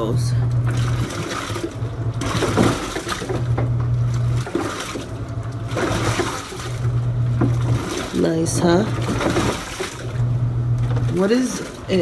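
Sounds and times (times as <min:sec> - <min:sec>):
washer motor humming: 0:00.0 - 0:12.0
water and clothes sloshing: 0:00.0 - 0:12.0.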